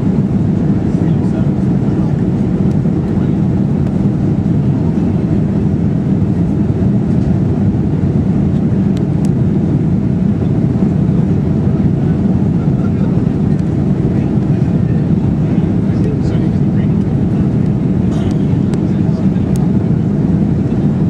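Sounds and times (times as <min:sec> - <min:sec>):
airplane cabin air rush: 0:00.0 - 0:21.0
jet engines droning: 0:00.0 - 0:21.0.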